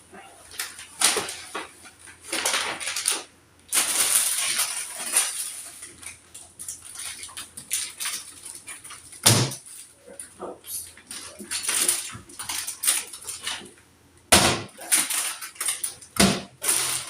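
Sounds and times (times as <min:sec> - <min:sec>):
rustling and scraping of items: 0:00.0 - 0:13.8, 0:14.7 - 0:17.0.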